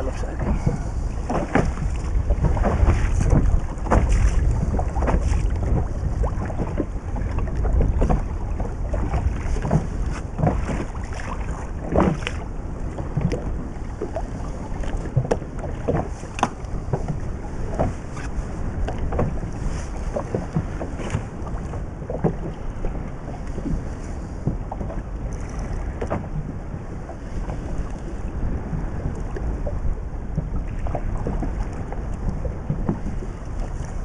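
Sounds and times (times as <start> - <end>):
water slapping against boat hull: 0.0 - 34.0
wind buffeting microphone: 0.0 - 34.0.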